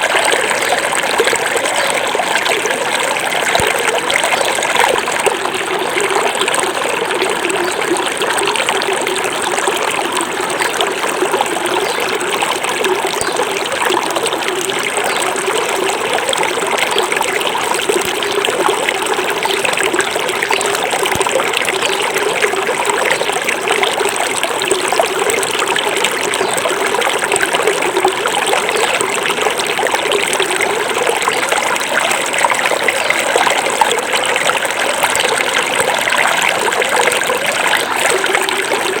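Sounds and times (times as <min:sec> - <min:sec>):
river flowing over stones: 0:00.0 - 0:39.0.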